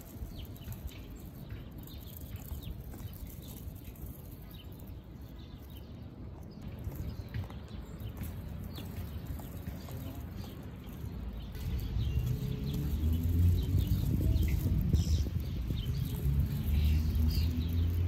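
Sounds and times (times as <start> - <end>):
roller-skate wheels on asphalt: 0.0 - 18.0
small birds chirping: 0.0 - 18.0.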